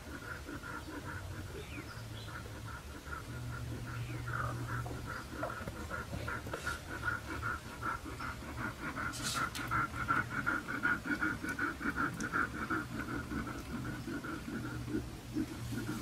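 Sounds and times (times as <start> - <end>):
dog panting rapidly: 0.0 - 16.0.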